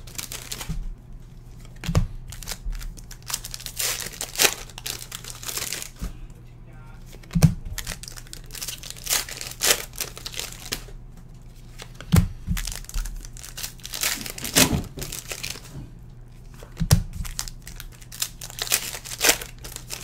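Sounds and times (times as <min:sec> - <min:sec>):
foil wrappers tearing and crinkling: 0:00.0 - 0:00.7, 0:01.6 - 0:06.0, 0:07.1 - 0:10.9, 0:11.6 - 0:15.7, 0:16.4 - 0:20.0.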